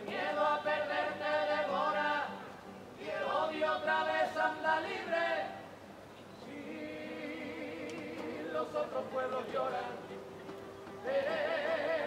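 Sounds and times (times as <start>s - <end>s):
young men singing together: 0.0s - 2.4s, 3.0s - 5.7s, 6.5s - 10.1s, 11.0s - 12.0s.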